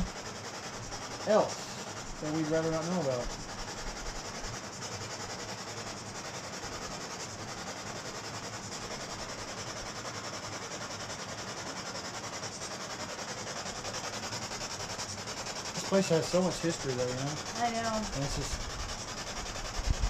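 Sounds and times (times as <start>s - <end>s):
pulsing radio static hiss: 0.0s - 20.0s.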